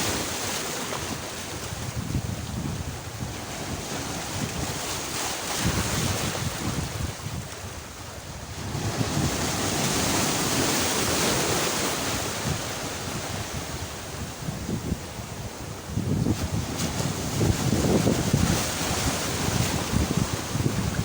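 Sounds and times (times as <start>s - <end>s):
sea waves washing onto shore: 0.0s - 21.0s
wind buffeting microphone: 1.1s - 21.0s.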